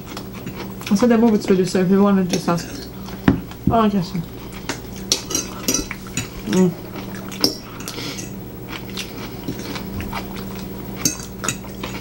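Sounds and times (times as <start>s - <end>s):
people chewing: 0.0s - 12.0s
steady low hum: 0.0s - 12.0s.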